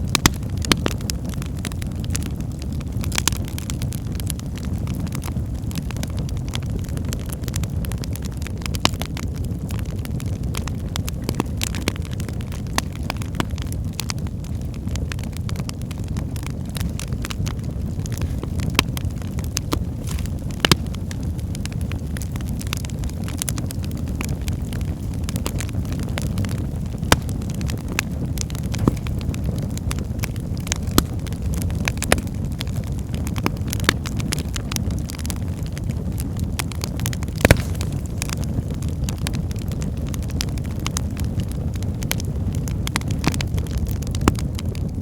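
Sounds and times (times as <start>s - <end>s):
logs crackling and popping: 0.0s - 45.0s
low rumble of flames: 0.0s - 45.0s.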